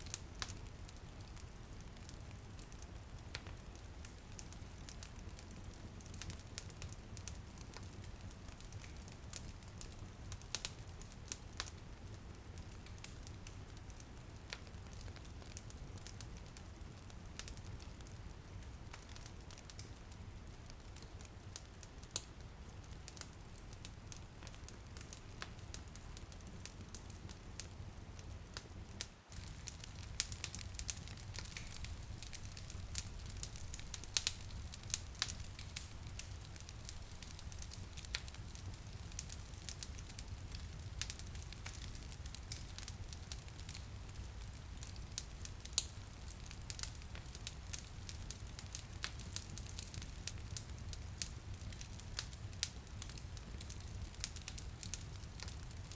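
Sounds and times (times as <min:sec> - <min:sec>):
light rain on window: 0:00.0 - 0:55.9
wood fire crackling and popping: 0:00.0 - 0:55.9.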